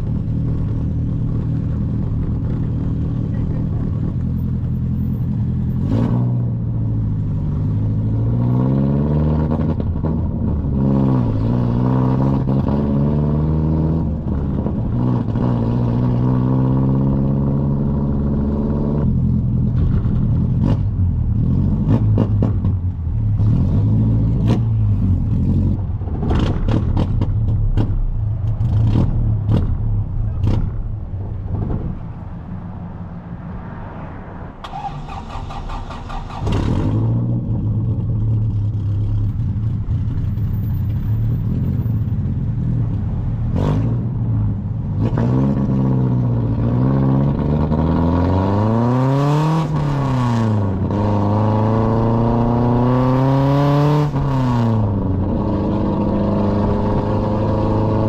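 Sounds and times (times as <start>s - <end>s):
vehicle engine revving: 0.0s - 32.0s, 34.6s - 40.2s, 40.9s - 58.0s.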